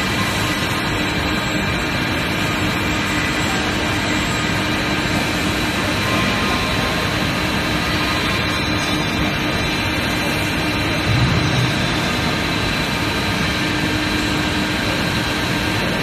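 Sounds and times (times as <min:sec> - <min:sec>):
machinery humming and whining: 0:00.0 - 0:16.0.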